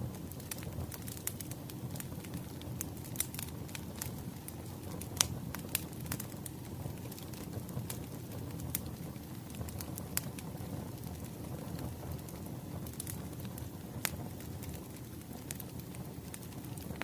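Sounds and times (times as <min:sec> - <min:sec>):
burning logs popping and snapping: 0:00.0 - 0:17.0
wood fire crackling: 0:00.0 - 0:17.0.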